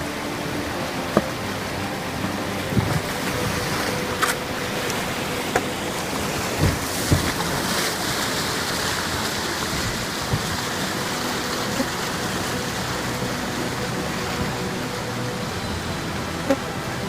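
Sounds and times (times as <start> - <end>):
white water rushing: 0.0 - 17.0.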